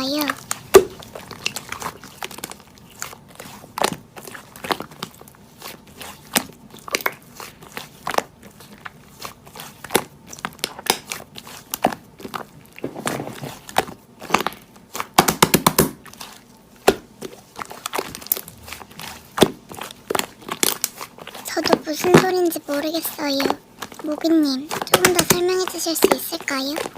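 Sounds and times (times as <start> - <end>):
slime squeezed crackling: 0.0 - 15.2, 15.9 - 26.9.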